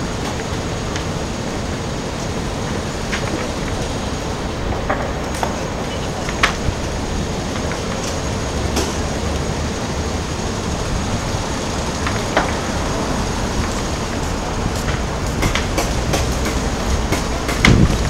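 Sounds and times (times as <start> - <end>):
city background rumble: 0.0 - 18.0.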